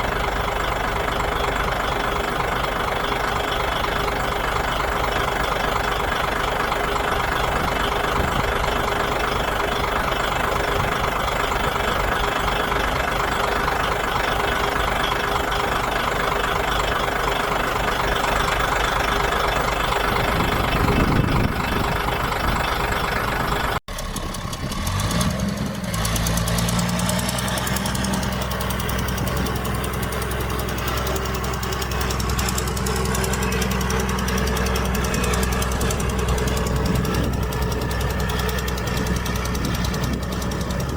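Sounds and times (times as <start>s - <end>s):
deeper engine revving: 0.0s - 40.9s
heavy machinery diesel engines: 0.0s - 40.9s.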